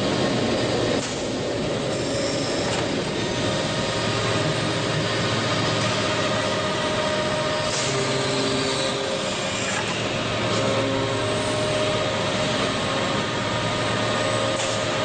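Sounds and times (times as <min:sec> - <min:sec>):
hydraulic press machine whine: 0:00.0 - 0:15.0.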